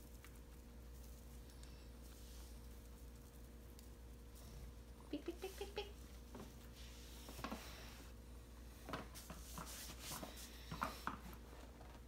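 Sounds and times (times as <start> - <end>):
guinea pigs scrabbling in hay: 0.0 - 11.5.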